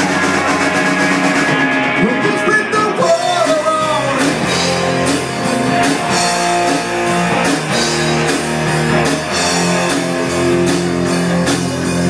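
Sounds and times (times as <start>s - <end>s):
drum kit beat: 0.0s - 12.0s
electric guitars melody: 0.0s - 12.0s.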